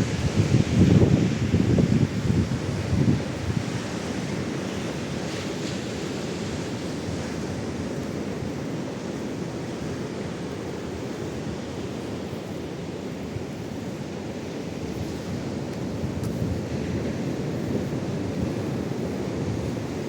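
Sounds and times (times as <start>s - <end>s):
ocean surf: 0.0s - 20.0s
wind on microphone: 0.0s - 20.0s.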